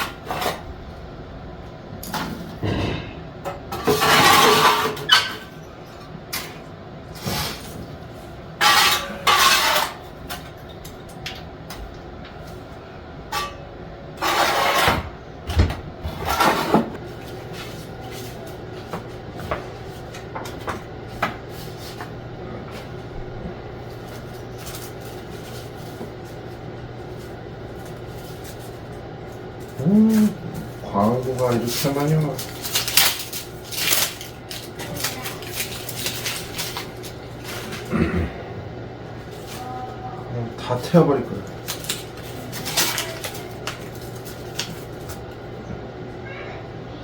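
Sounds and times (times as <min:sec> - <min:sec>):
steady low hum: 0:00.0 - 0:47.0
household things clattering and rustling: 0:02.0 - 0:11.5, 0:14.2 - 0:38.3, 0:40.6 - 0:45.4.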